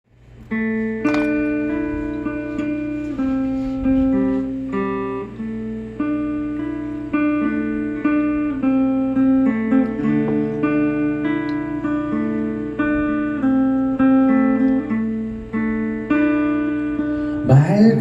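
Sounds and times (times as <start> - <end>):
instrumental guitar music: 0.1 - 18.0.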